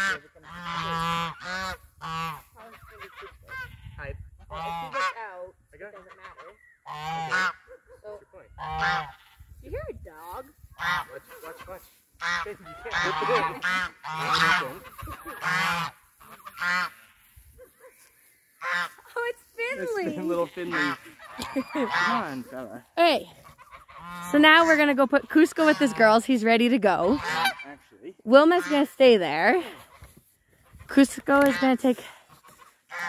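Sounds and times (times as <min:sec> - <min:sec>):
geese honking: 0:00.0 - 0:09.6, 0:10.4 - 0:33.0.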